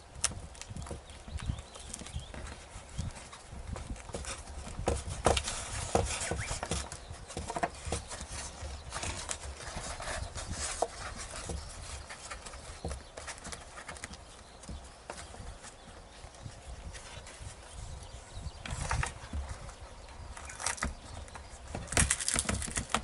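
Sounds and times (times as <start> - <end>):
hands handling foam model airplane: 0.0 - 23.0.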